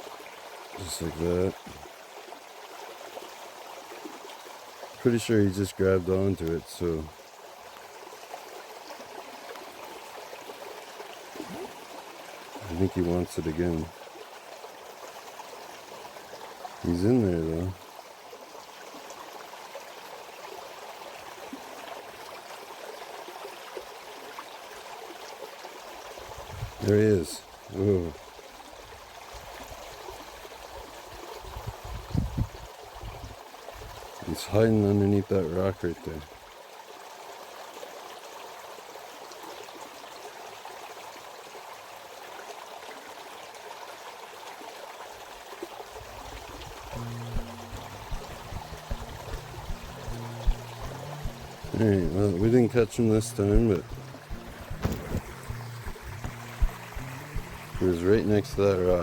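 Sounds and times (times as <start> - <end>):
brook trickling over rocks: 0.0 - 59.0.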